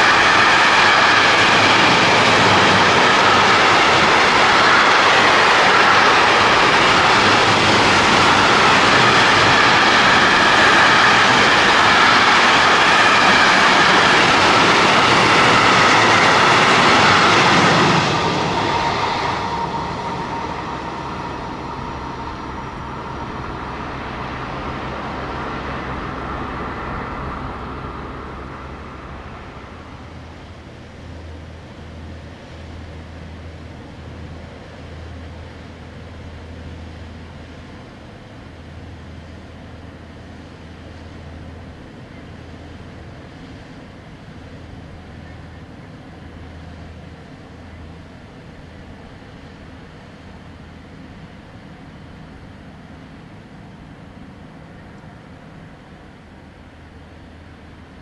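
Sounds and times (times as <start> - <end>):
freight train wheels rushing on rail: 0.0 - 58.0.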